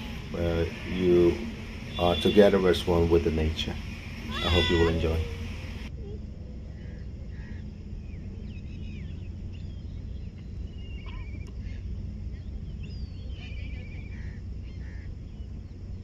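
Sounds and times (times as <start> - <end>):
bird trills: 0.0 - 5.9, 6.5 - 16.0
birds chirping and calling: 0.0 - 5.9, 6.5 - 16.0
steady low rumble: 0.0 - 16.0.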